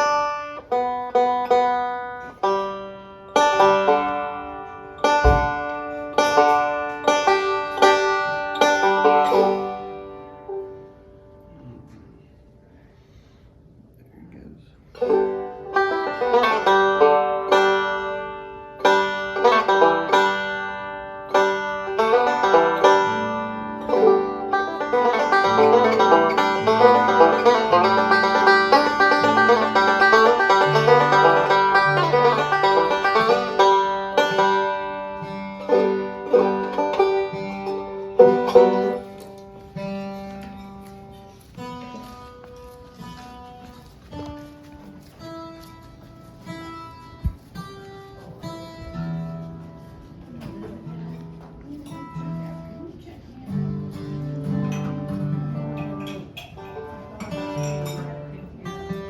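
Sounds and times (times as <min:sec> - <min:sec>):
banjo picking: 0:00.0 - 0:12.6, 0:14.9 - 0:59.0.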